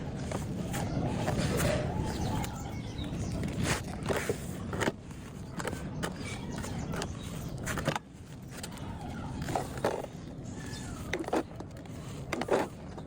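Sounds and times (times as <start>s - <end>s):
low gritty rustle: 0.0s - 13.0s.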